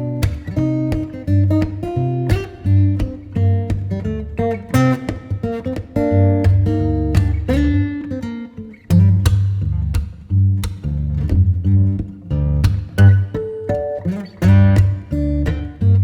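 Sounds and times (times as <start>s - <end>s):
acoustic guitar music with bass: 0.0s - 16.0s.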